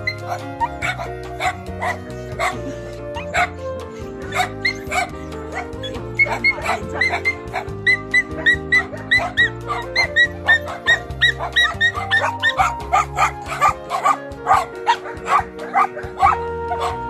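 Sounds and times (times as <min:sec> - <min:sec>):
background music with held notes: 0:00.0 - 0:17.0
dogs barking: 0:00.0 - 0:17.0.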